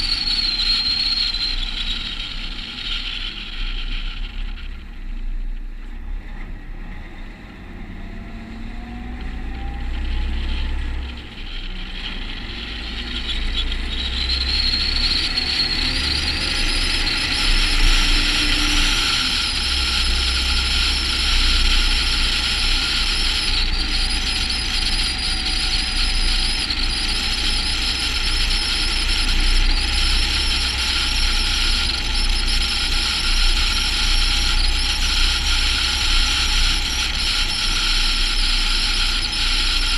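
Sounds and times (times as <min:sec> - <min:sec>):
rushing wind and tyre noise: 0:00.0 - 0:39.9
truck engine rumble: 0:00.0 - 0:39.9.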